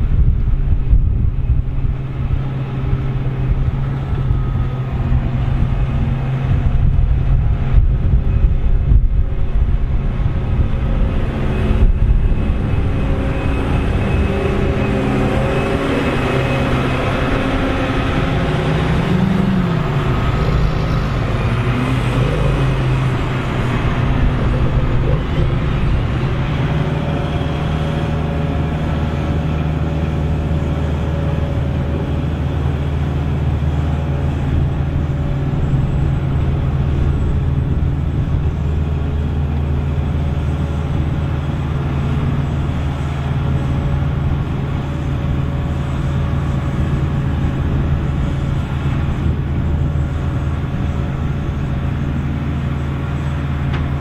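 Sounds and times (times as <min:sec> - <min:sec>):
harvester engine drone: 0:00.0 - 0:54.0.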